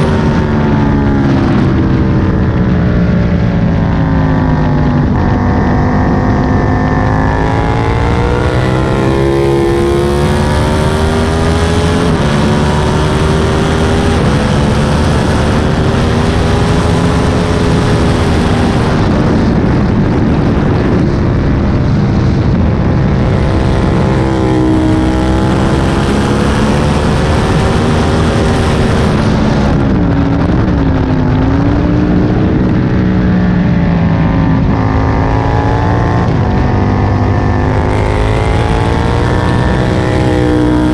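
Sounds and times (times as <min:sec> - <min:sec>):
motorcycle engine revving: 0:00.0 - 0:40.9
wind rushing over microphone: 0:00.0 - 0:40.9.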